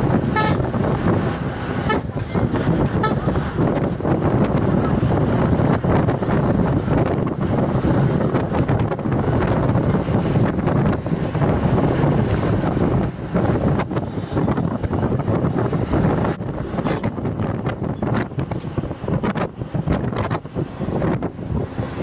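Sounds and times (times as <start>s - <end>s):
road and engine noise: 0.0s - 22.0s
wind buffeting microphone: 0.0s - 22.0s.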